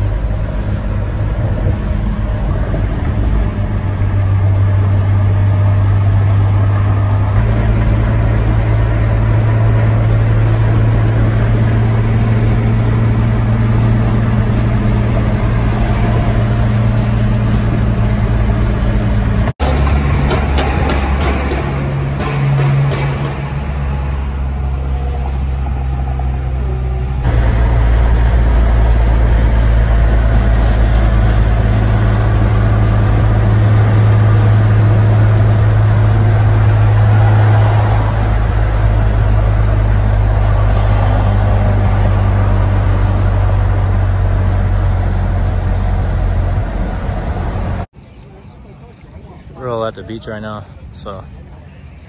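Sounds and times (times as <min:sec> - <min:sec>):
engine and exhaust droning: 0:00.0 - 0:52.0
road noise: 0:00.0 - 0:52.0.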